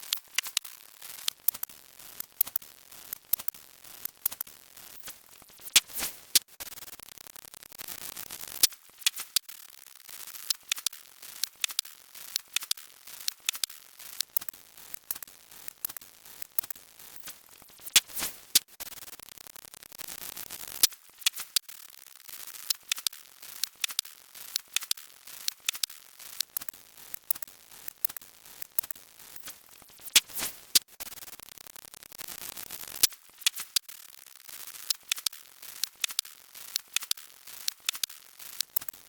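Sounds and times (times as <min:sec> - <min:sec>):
sharp clicks and crackles: 0:00.0 - 0:39.0
faint steady hiss: 0:07.7 - 0:39.0.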